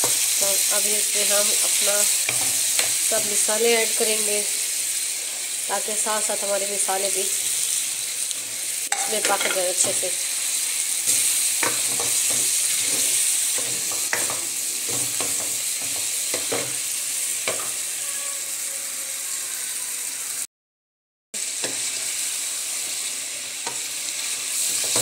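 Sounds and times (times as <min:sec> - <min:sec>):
food sizzling in hot oil: 0:00.0 - 0:20.5, 0:21.4 - 0:25.0.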